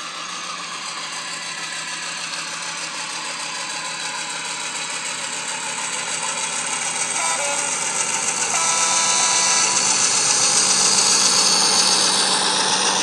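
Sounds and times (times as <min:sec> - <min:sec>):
simulated diesel engine through speaker: 0:00.0 - 0:13.0.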